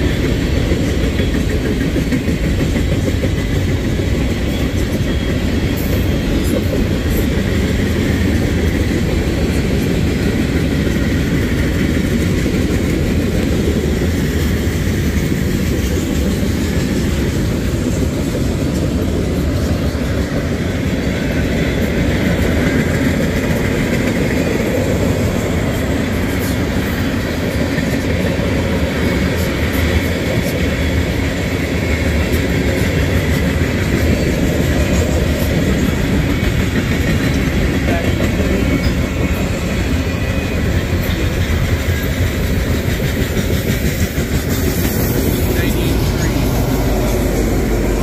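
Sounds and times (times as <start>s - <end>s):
freight train rolling past: 0.0s - 48.0s
steel wheels rumbling on rails: 0.0s - 48.0s.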